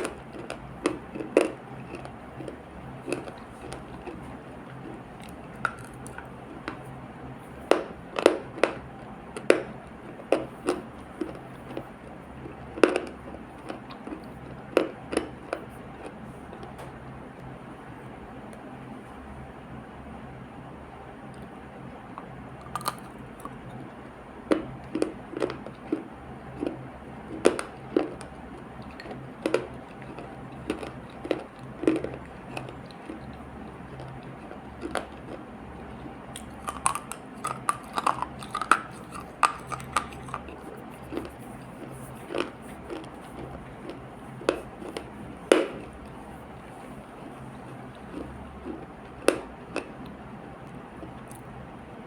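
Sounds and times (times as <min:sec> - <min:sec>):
person chewing crunchy paste: 0:00.0 - 0:16.8, 0:22.1 - 0:51.5
steady low hum: 0:00.0 - 0:52.0.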